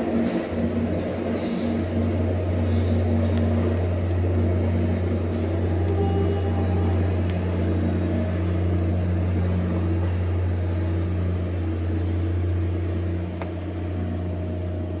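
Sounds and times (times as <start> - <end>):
diesel train droning: 0.0 - 15.0
steady tones: 0.0 - 15.0.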